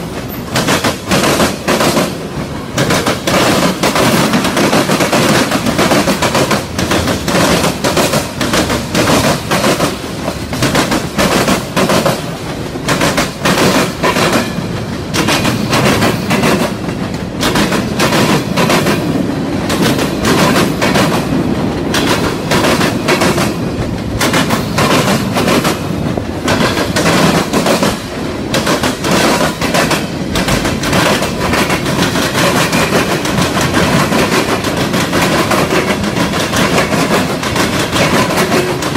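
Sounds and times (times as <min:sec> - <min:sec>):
train rolling rumble: 0:00.0 - 0:38.9
train wheels clattering over track: 0:00.0 - 0:38.9.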